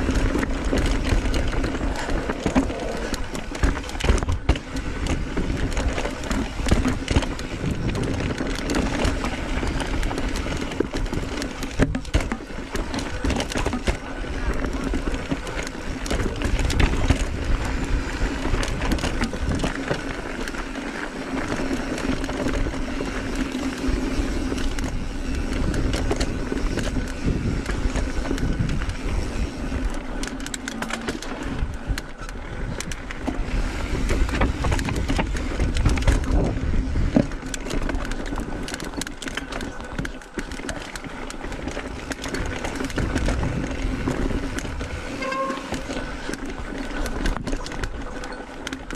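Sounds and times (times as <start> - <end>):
bike knocking and rattling: 0.0 - 48.9
bike tyres on dirt and rock: 0.0 - 48.9
wind rumbling on microphone: 0.0 - 48.9.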